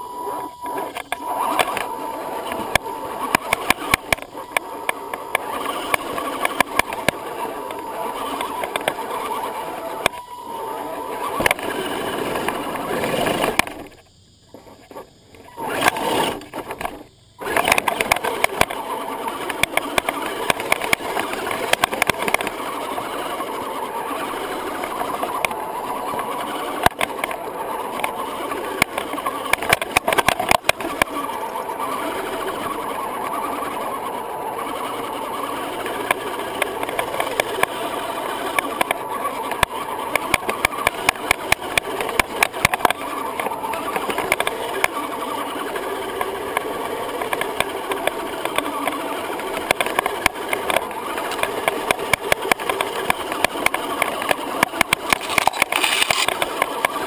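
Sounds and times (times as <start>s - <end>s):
electric motor whine: 0.0s - 57.0s
chassis clicks and knocks: 0.5s - 10.3s, 11.2s - 23.5s, 24.1s - 31.3s, 34.7s - 57.0s.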